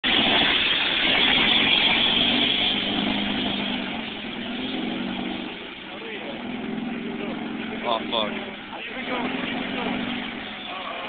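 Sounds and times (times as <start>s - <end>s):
loud rushing noise: 0.0s - 11.0s
motorboat engine: 0.0s - 11.0s.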